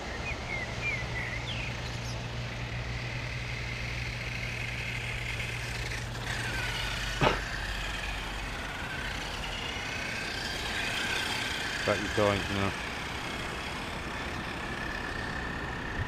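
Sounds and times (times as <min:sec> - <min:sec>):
steady low hum: 0:00.0 - 0:16.0
electric motor whining: 0:01.2 - 0:16.0.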